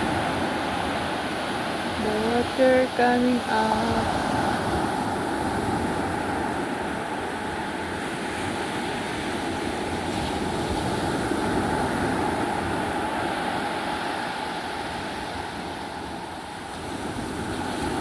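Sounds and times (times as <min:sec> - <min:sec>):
sea waves washing onto shore: 0:00.0 - 0:18.0.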